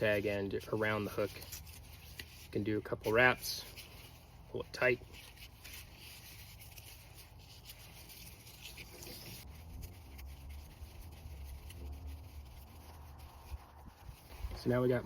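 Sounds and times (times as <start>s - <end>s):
strap webbing rubbing and rustling: 0.0s - 15.0s.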